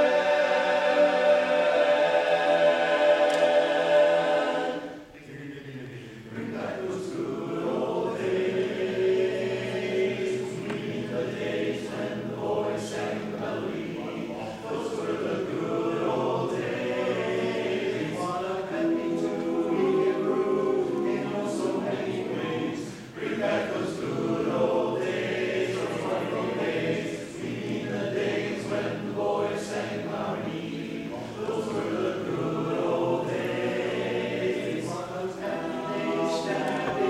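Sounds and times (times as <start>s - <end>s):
men's chorus singing: 0.0s - 37.0s.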